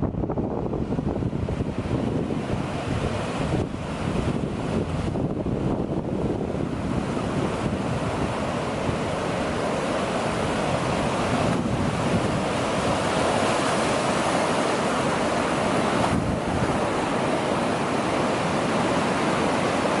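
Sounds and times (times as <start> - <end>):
wind buffeting microphone: 0.0 - 19.9
surf breaking on a beach: 0.0 - 20.0.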